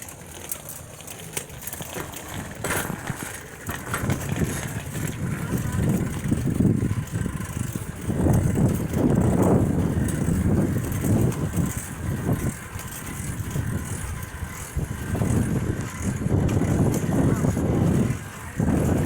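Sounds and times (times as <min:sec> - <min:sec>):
wind buffeting microphone: 0:01.9 - 0:19.0.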